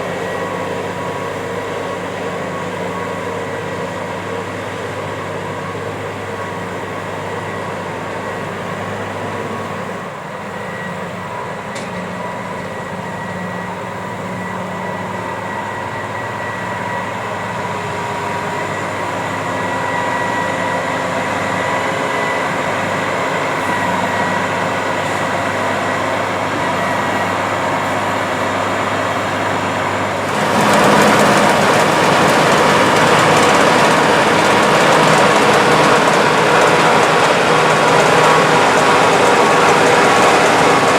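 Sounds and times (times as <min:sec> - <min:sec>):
combine engine drone: 0:00.0 - 0:40.9.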